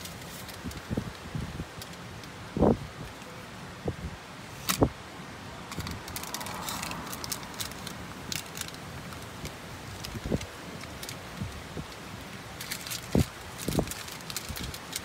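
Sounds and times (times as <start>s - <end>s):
gusty wind: 0.0s - 15.0s
rustling leaves and palm fronds: 0.0s - 15.0s.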